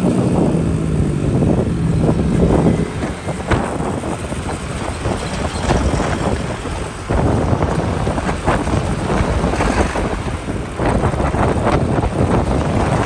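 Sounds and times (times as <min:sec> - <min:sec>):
motorbike engine running: 0:00.0 - 0:13.0
motorbike traffic: 0:00.0 - 0:13.0
wind buffeting microphone: 0:00.0 - 0:13.0.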